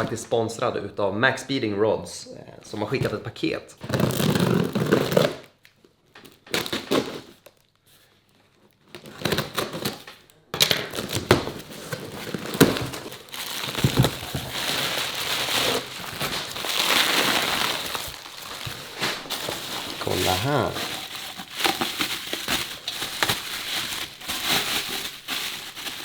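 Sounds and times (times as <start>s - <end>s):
packaging rustling and crinkling: 3.8s - 5.6s, 6.2s - 26.0s.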